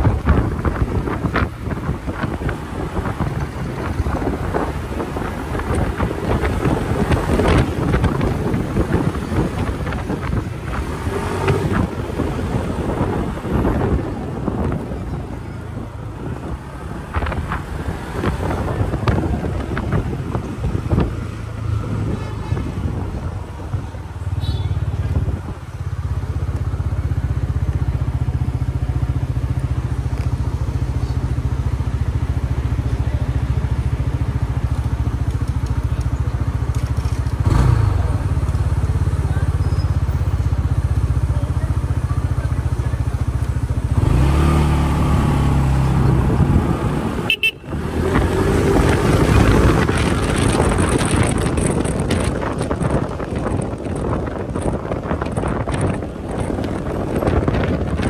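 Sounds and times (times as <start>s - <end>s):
scooter engine: 0.0s - 58.0s
wind and road noise: 0.0s - 58.0s.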